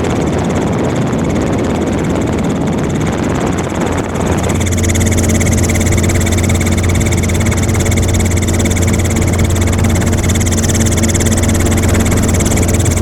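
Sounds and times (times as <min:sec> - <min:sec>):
helicopter whirring: 0:00.0 - 0:13.0.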